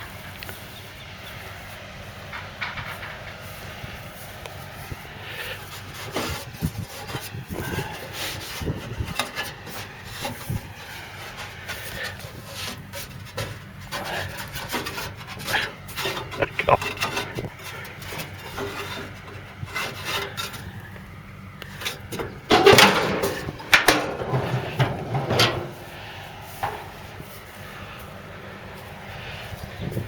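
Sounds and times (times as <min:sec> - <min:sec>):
rubbing and scraping: 0:02.1 - 0:30.0.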